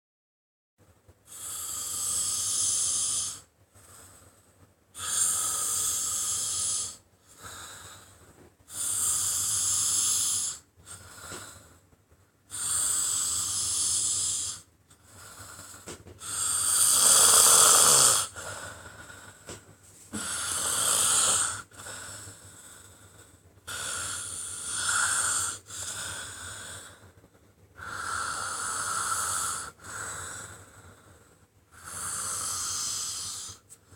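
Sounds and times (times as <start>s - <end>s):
person snoring: 1.3s - 3.5s, 5.0s - 11.7s, 12.5s - 27.0s, 27.8s - 31.1s, 31.7s - 33.6s.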